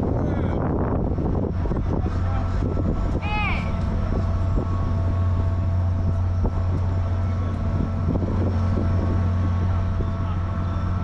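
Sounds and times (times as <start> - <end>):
train low hum: 0.0 - 11.0.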